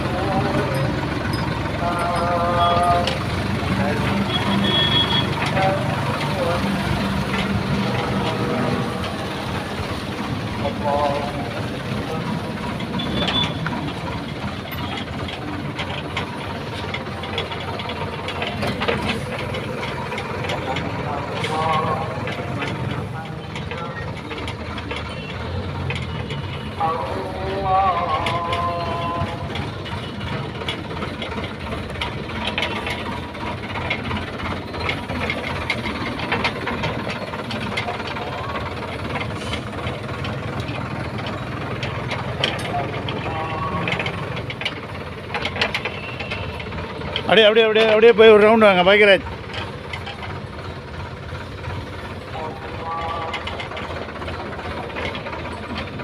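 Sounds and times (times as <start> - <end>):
tractor engine running: 0.0 - 56.0
clicks and rattles: 5.2 - 56.0.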